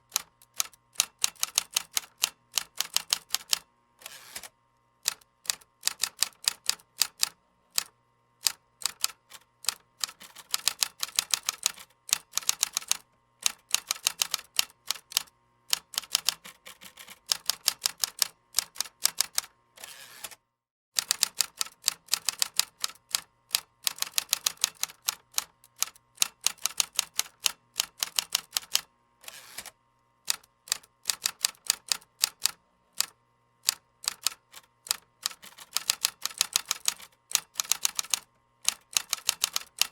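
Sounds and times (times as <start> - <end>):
fast typing on a keyboard: 0.2 - 3.6, 5.1 - 19.5, 21.0 - 28.8, 30.3 - 33.1, 33.7 - 39.9.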